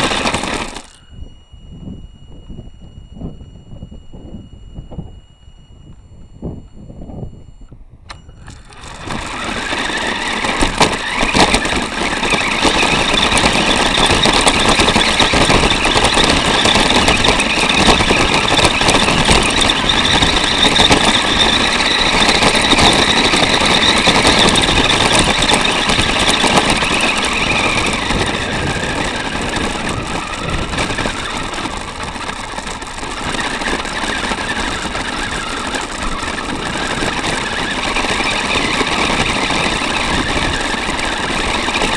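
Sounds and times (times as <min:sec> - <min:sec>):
rc car motor whining: 0:00.0 - 0:41.9.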